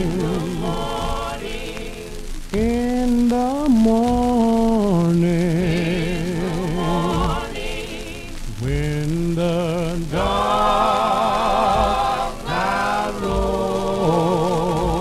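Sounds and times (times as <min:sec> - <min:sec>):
gospel group singing in harmony: 0:00.0 - 0:15.0
record surface crackle: 0:00.0 - 0:15.0.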